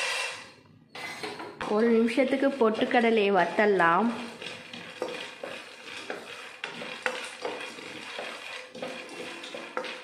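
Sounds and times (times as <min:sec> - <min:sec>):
wooden spatula scraping pan: 0:01.0 - 0:10.0
roasting dal clicking in pan: 0:01.6 - 0:10.0.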